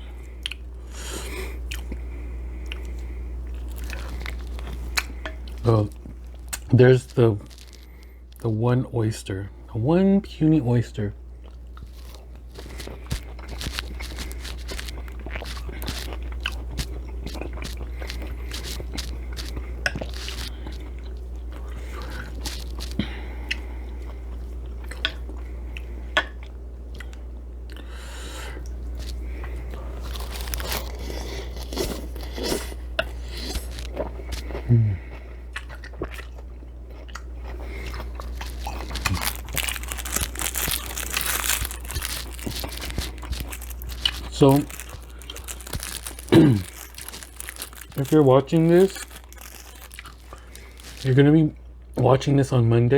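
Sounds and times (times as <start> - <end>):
steady low hum: 0.0 - 52.9
person chewing and crunching: 0.2 - 8.4, 11.4 - 27.9, 28.6 - 52.0.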